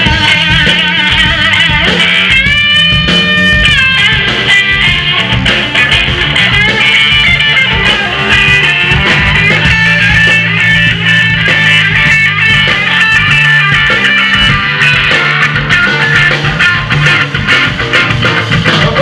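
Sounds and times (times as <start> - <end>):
electric guitar bending notes: 0.0 - 19.0
rock band playing loud: 0.0 - 19.0.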